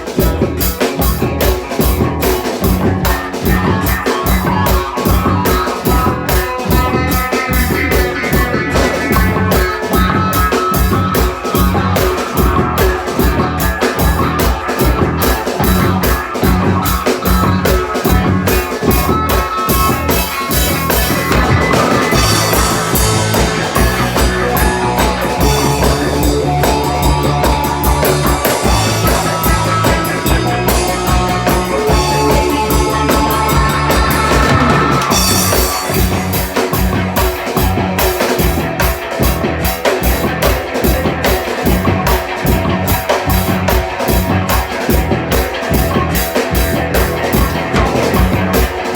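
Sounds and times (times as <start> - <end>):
drum kit beat: 0.0 - 48.9
guitar: 0.0 - 48.9.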